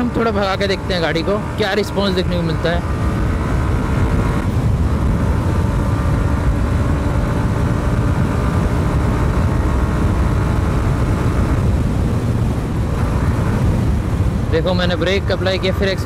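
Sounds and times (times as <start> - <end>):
motorcycle engine running hard: 0.0 - 16.0
wind rumble on microphone: 0.0 - 16.0.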